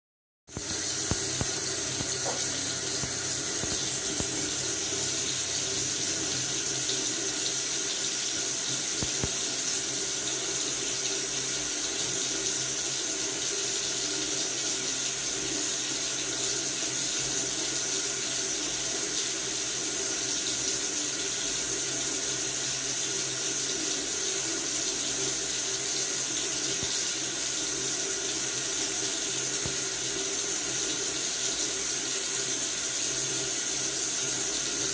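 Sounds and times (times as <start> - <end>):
faucet running into sink: 0.5 - 34.9.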